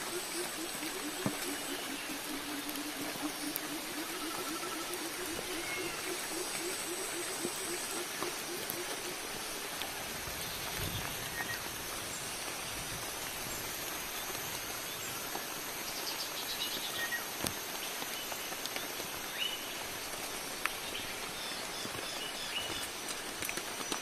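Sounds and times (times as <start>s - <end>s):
rain hissing: 0.0s - 24.0s
water dripping through foliage: 0.0s - 24.0s.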